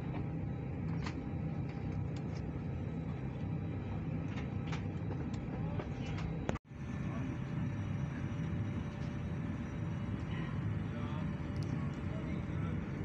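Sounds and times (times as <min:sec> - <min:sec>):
aircraft cabin hum: 0:00.0 - 0:13.0.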